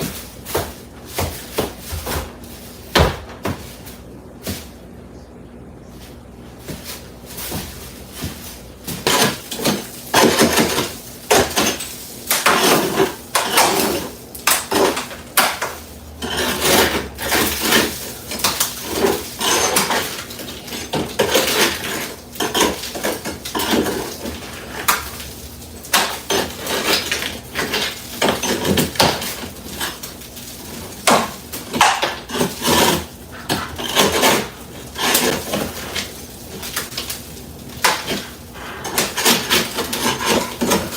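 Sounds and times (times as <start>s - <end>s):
hard objects clattering: 6.6s - 40.9s.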